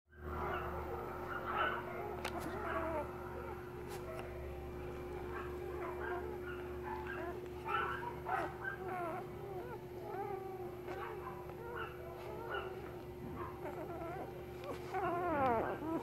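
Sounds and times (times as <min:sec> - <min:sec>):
steady low hum: 0:00.1 - 0:16.0
puppies squeaking and whimpering: 0:01.4 - 0:03.6, 0:05.4 - 0:16.0.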